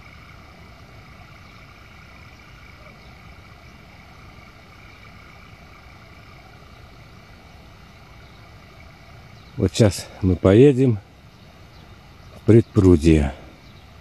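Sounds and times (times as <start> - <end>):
faint low hum with hiss: 0.0 - 14.0.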